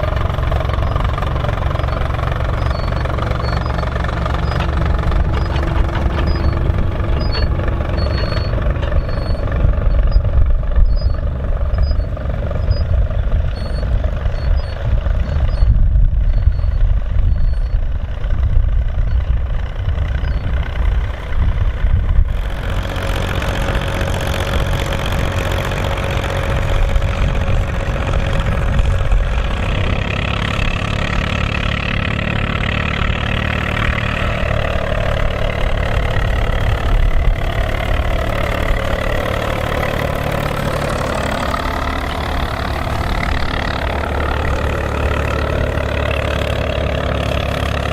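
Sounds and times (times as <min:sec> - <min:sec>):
tractor diesel engines under load: 0:00.0 - 0:47.9.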